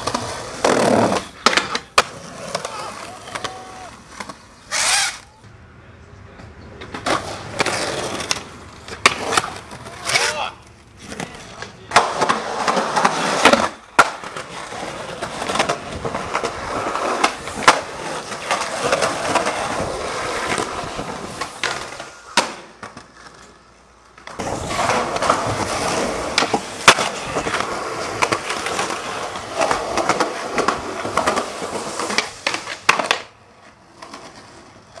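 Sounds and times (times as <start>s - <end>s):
skateboard clacking: 0.0s - 5.4s, 6.4s - 35.0s
skateboard wheels rolling on concrete: 0.0s - 35.0s.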